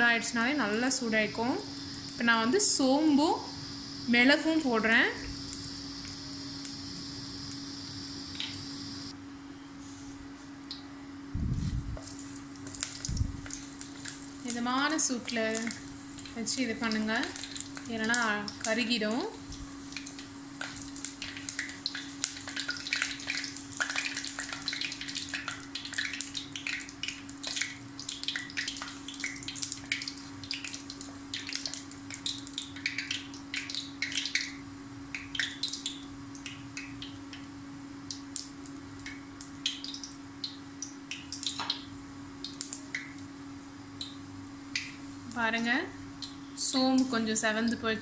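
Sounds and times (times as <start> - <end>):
spices sizzling in oil: 0.0 - 9.2, 11.4 - 48.0
small crackles and pops: 1.8 - 2.3, 4.4 - 9.1, 11.6 - 43.3, 44.0 - 45.6, 46.2 - 47.8.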